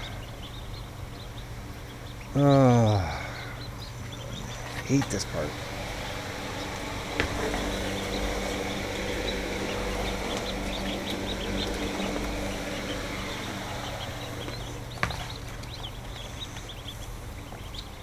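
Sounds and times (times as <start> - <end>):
ducklings peeping: 0.0 - 18.0
low machine hum: 0.0 - 18.0.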